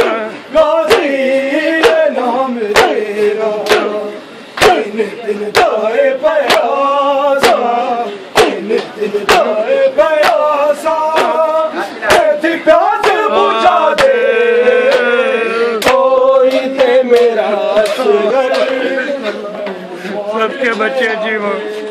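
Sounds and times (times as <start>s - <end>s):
rhythmic chest-beating slaps: 0.0s - 19.8s
men chanting in unison: 0.0s - 21.9s.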